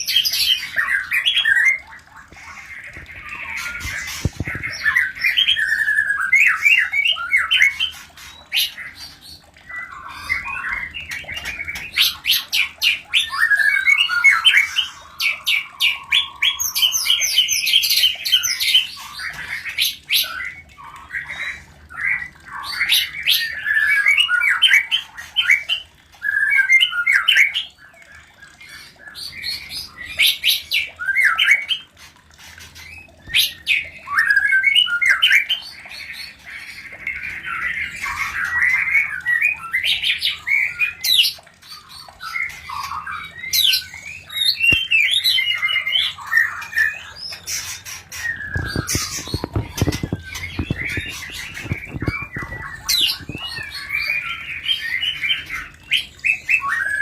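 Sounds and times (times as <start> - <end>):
birds chattering and singing: 0.0 - 57.0.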